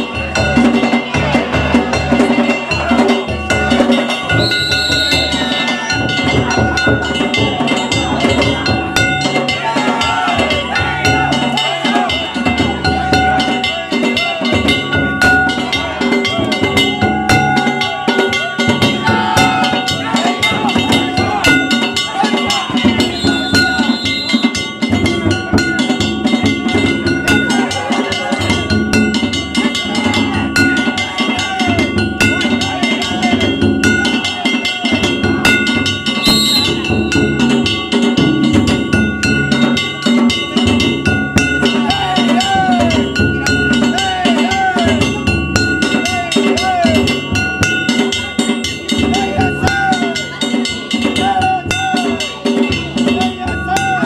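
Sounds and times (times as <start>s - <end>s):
small metal gongs beaten: 0.0s - 54.0s
taiko drum beating: 0.0s - 54.0s
voices calling: 0.0s - 54.0s.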